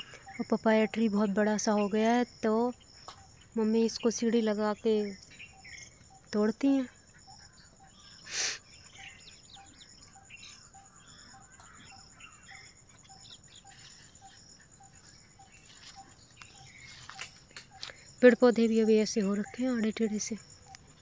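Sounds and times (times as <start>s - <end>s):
bird chirps: 0.0s - 21.0s
insects buzzing: 0.0s - 21.0s.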